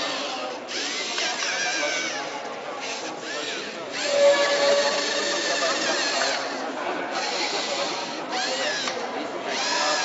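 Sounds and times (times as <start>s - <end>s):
small electric motors whining: 0.0s - 10.0s.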